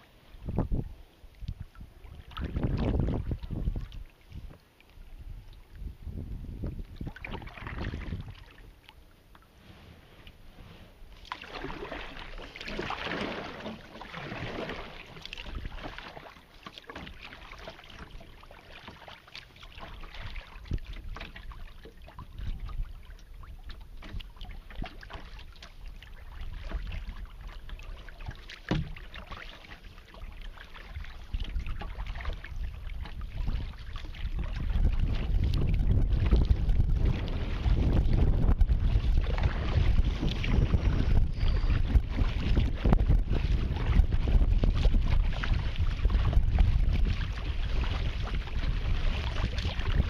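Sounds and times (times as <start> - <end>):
wind rumble on microphone: 0.0 - 8.8, 9.6 - 16.0, 19.8 - 29.3, 30.1 - 50.0
water splashing against kayak hull: 0.0 - 50.0.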